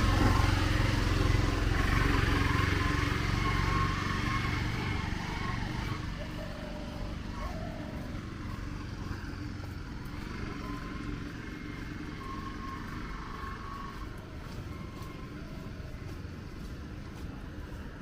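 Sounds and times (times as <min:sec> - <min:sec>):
faint engine tones: 0:00.0 - 0:18.0
road traffic hum: 0:00.0 - 0:18.0.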